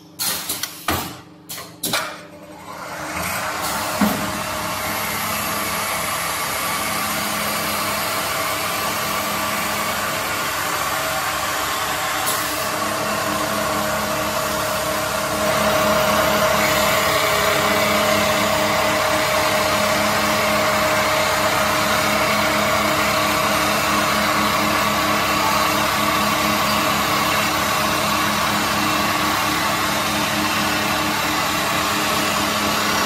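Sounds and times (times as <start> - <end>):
lathe motor whine: 3.0 - 33.0.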